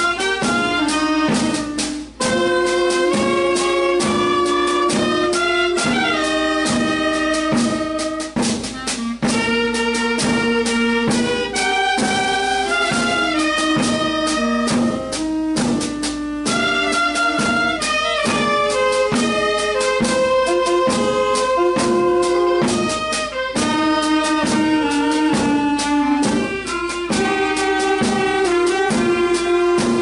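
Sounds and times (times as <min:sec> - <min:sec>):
bass drum beating time: 0:00.0 - 0:30.0
wind band playing a lyrical tune: 0:00.0 - 0:30.0.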